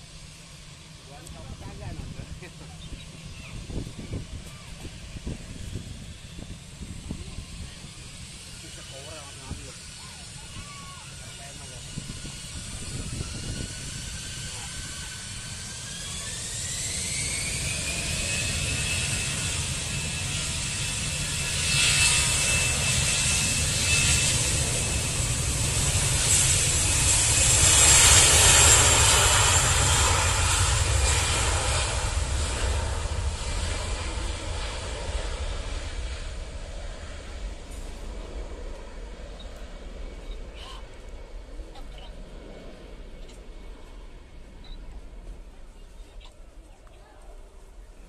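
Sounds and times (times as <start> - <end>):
jet engines spooling up: 0.0 - 46.9
jet engine roar: 0.0 - 48.0.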